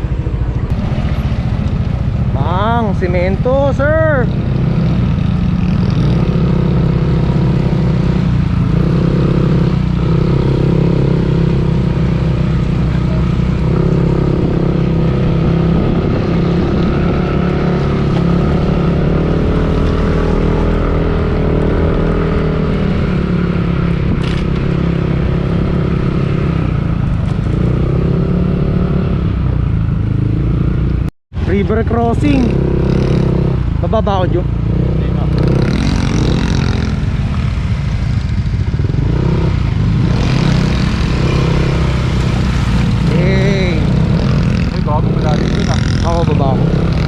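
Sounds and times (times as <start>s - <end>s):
motorcycle engine revving: 0.0s - 47.0s
wind and road noise: 0.0s - 47.0s.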